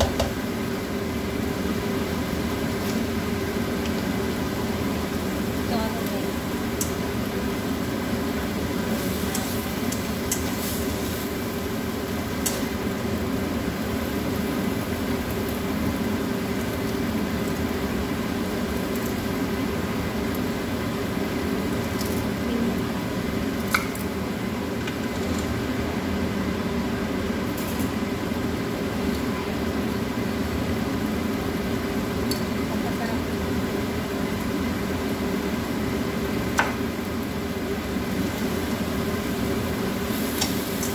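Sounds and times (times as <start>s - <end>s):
meat and onion sizzling in a pan: 0.0s - 40.9s.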